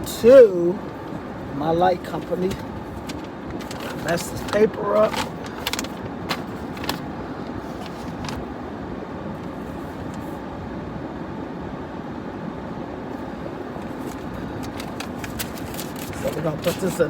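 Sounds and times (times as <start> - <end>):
car engine rumbling: 0.0 - 10.4, 13.2 - 17.0.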